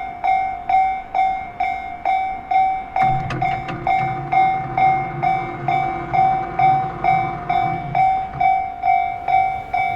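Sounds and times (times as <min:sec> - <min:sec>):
level-crossing alarm ringing: 0:00.0 - 0:09.9
train rumble: 0:01.4 - 0:09.9.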